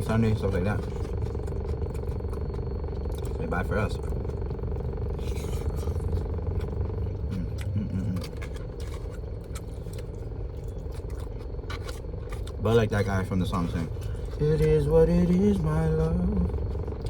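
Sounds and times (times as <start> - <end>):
chewing: 0.0 - 17.0
steady low rumble: 0.0 - 17.0.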